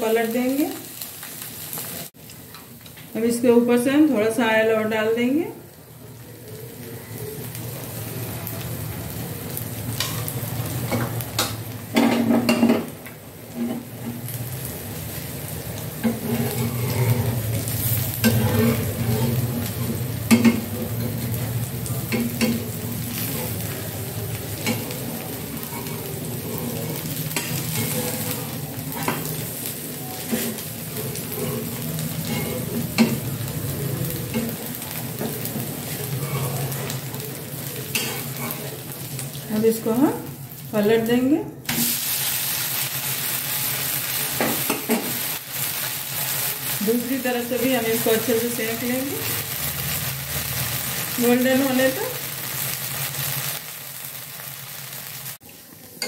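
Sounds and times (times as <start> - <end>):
batter sizzling in oil: 0.0 - 56.0.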